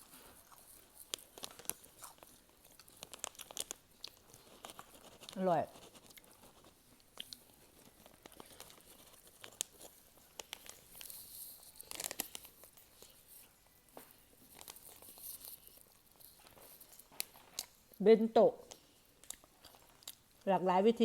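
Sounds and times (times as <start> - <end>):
plastic snack packet crinkling: 0.0 - 18.0.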